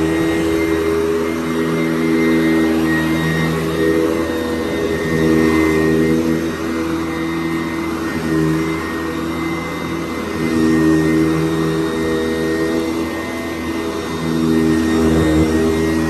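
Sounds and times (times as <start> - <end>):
vacuum cleaner motor on carpet: 0.0 - 16.0.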